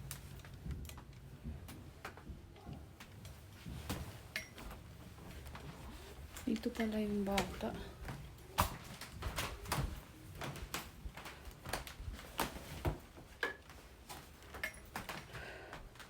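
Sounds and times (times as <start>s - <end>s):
light knocks of objects handled: 0.0s - 16.0s.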